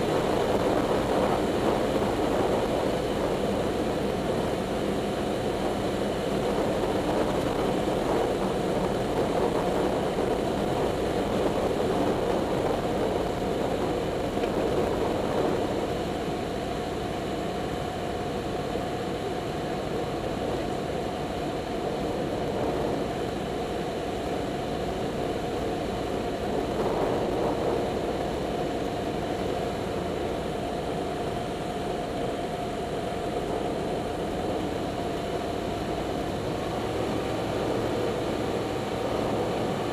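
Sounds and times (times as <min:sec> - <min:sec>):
propeller airplane engine droning: 0:00.0 - 0:39.9.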